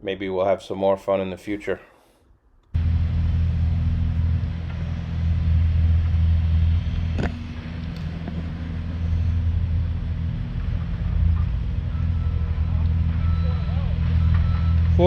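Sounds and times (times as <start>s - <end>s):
engine running steadily: 2.8s - 15.0s.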